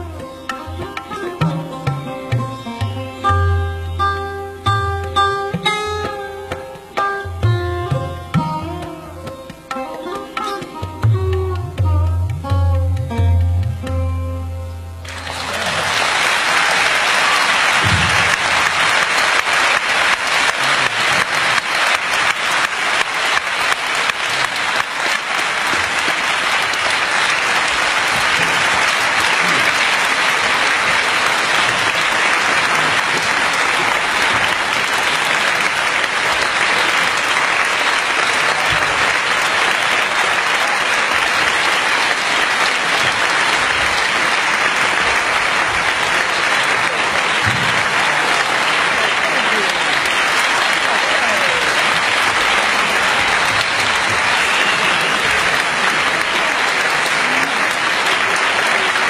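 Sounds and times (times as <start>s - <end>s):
audience applauding: 0.0s - 7.5s, 15.0s - 59.0s.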